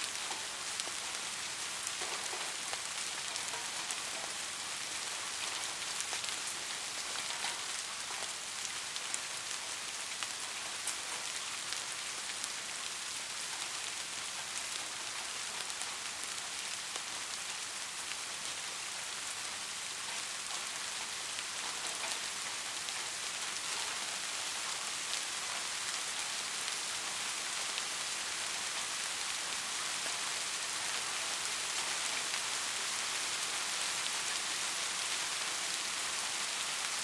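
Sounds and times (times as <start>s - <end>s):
heavy rain hissing: 0.0s - 37.0s.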